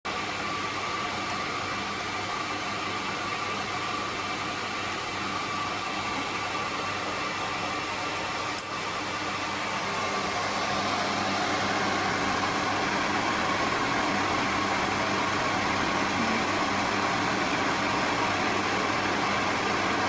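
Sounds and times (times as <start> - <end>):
cooling fans whirring: 0.1 - 20.0
thin steady whine: 0.1 - 20.0.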